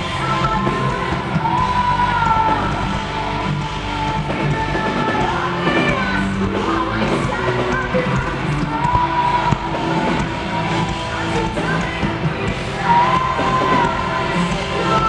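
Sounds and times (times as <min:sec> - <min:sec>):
live heavy metal band: 0:00.0 - 0:15.0
woman singing: 0:00.0 - 0:15.0.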